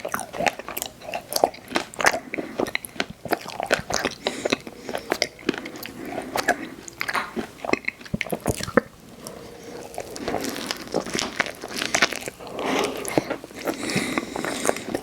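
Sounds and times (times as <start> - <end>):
biting and chewing ice cream: 0.0 - 15.0.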